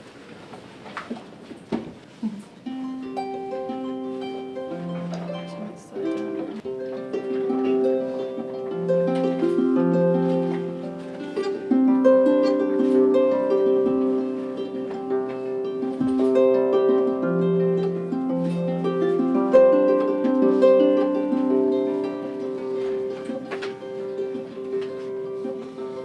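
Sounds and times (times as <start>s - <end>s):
plucked string instrument melody: 2.6s - 26.0s.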